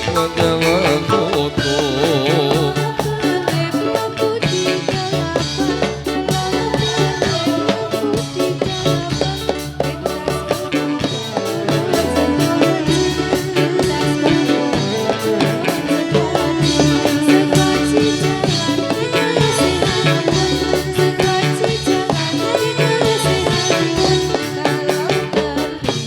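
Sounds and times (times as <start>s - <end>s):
live band instrumental: 0.0s - 26.0s.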